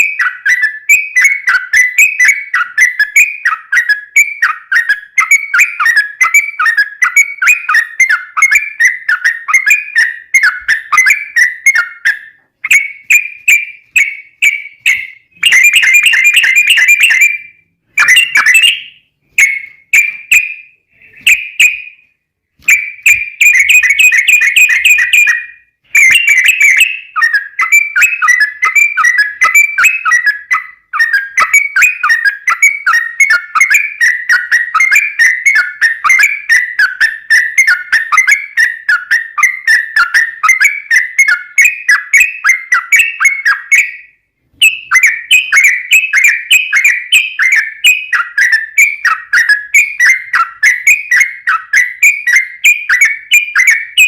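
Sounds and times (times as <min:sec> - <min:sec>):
bulbul chattering song: 0:00.0 - 0:54.0.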